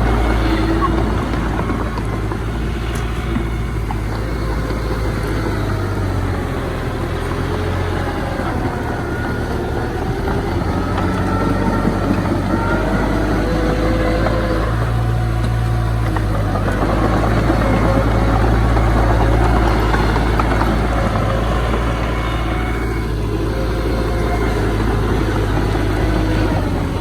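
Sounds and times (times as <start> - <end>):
diesel engine of heavy machinery: 0.0 - 27.0
faint wavering whines: 0.0 - 27.0.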